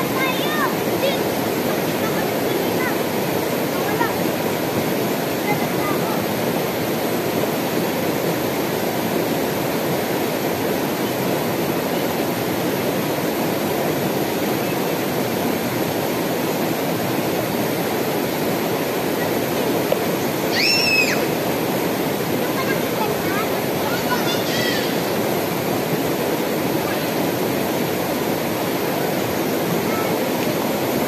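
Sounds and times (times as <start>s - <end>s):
river rushing over rocks: 0.0s - 31.0s.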